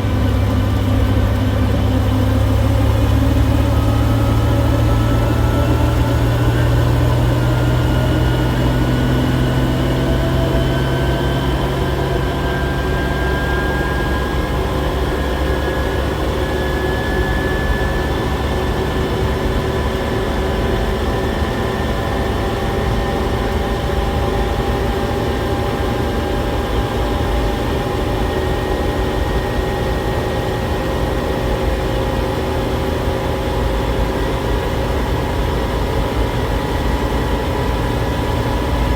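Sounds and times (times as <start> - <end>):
truck engine pulling: 0.0 - 38.9.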